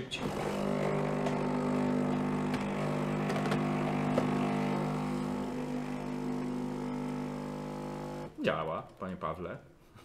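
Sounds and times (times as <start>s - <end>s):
espresso machine pump buzzing: 0.2s - 8.4s.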